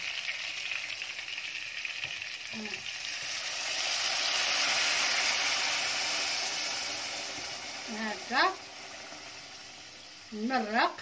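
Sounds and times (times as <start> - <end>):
water poured into hot pot: 0.0 - 10.4
meat sizzling in a pot: 0.0 - 11.0.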